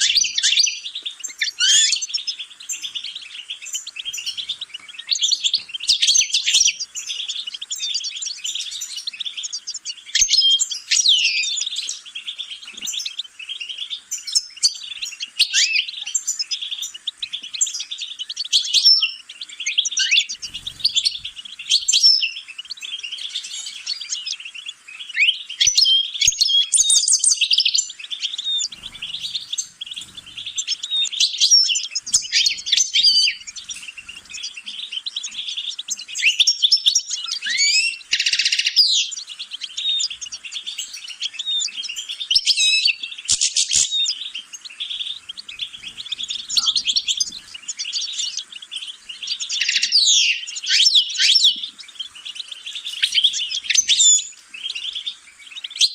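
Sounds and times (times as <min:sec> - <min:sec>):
goldfinch twittering song: 0:00.0 - 0:55.9.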